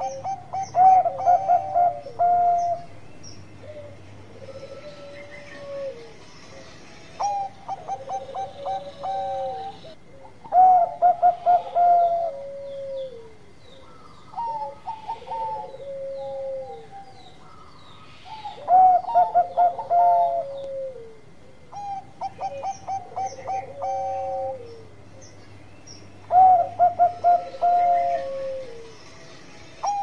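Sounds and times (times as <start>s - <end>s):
dove cooing: 0.0s - 2.9s, 3.6s - 25.4s, 26.2s - 29.0s, 29.8s - 30.0s.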